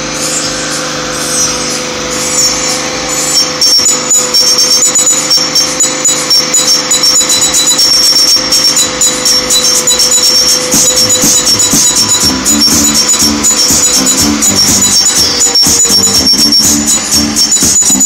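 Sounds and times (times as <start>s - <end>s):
carnival ride machinery hum: 0.0s - 18.0s.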